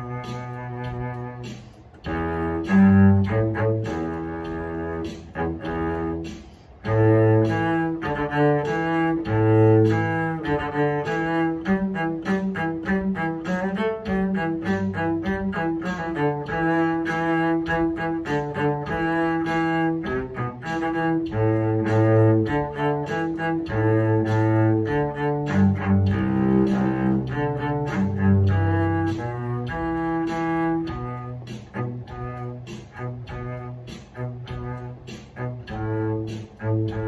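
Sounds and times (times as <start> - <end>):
solo bowed cello: 0.0 - 37.0.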